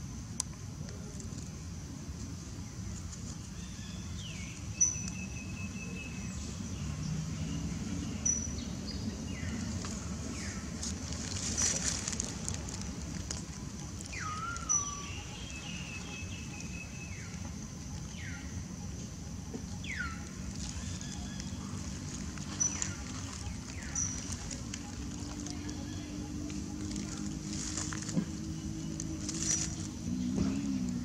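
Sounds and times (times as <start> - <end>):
low background rumble: 0.0 - 31.0.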